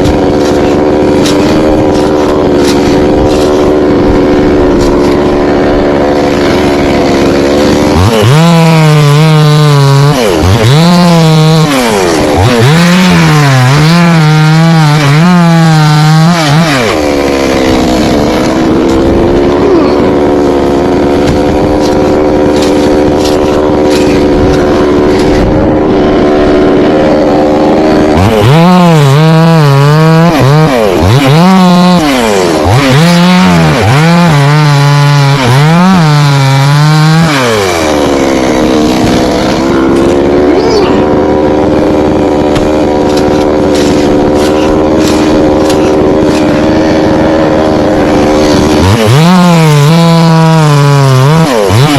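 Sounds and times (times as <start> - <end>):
chainsaw revving and idling: 0.0 - 51.9.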